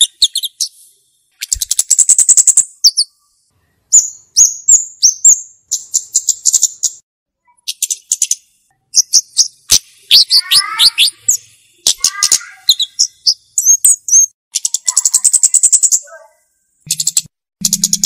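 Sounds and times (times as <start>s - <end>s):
bird calling with sharp chips: 0.0s - 18.0s.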